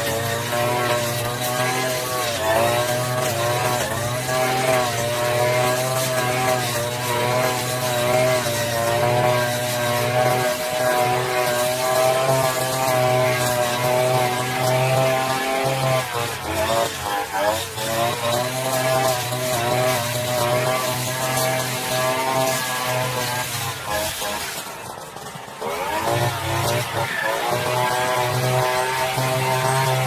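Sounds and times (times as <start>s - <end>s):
brush cutter cutting grass: 0.0s - 30.0s.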